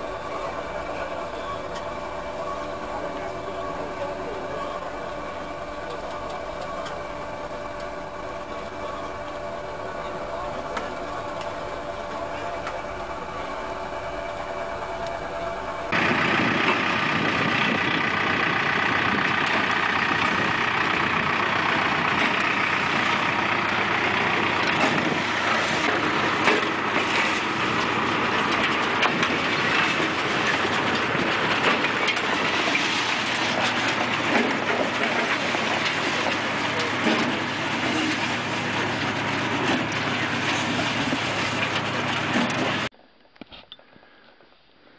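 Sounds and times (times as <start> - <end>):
sod harvester mechanical rattle: 0.0 - 42.9
tractor engine: 0.0 - 42.9.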